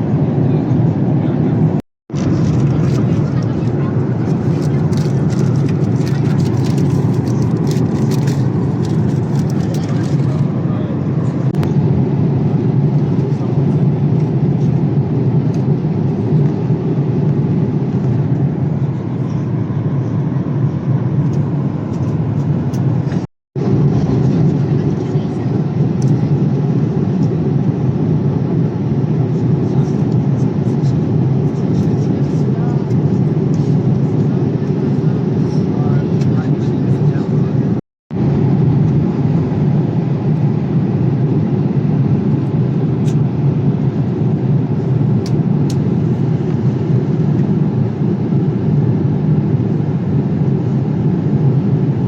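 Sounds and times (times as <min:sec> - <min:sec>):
airliner cabin rumble: 0:00.0 - 0:52.0.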